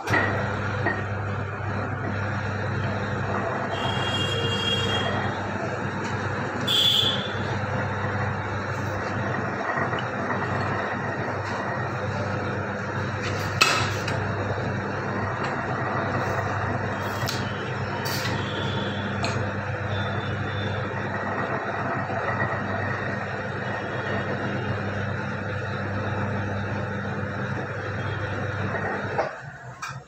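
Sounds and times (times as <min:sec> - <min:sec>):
pipe bending machine humming: 0:00.0 - 0:30.0.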